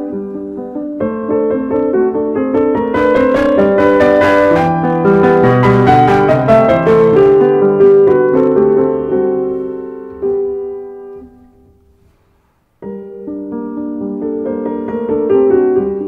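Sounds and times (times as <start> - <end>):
piano music: 0.0 - 12.1, 12.8 - 16.0.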